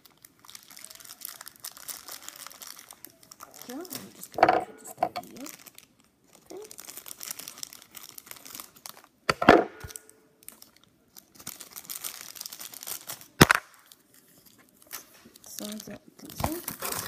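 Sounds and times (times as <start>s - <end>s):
plastic tearing: 0.0s - 17.0s
plastic wrapper crinkling: 0.0s - 17.0s.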